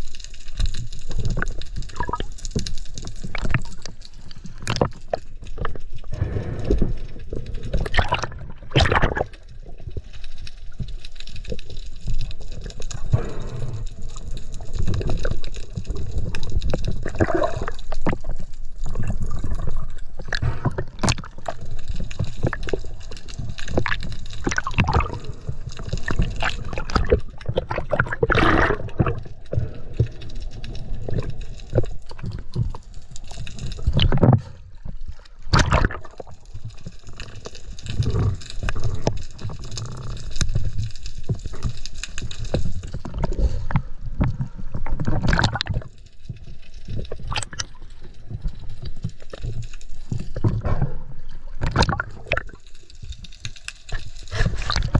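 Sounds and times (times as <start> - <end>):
water gurgling and sloshing: 0.0 - 54.9.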